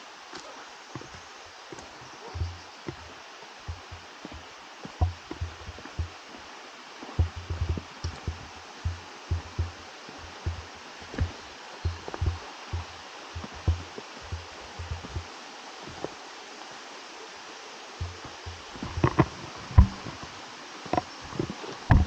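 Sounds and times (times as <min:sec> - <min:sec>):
footsteps on a trail: 0:00.0 - 0:16.2, 0:18.0 - 0:22.0
running water hiss: 0:00.0 - 0:22.0.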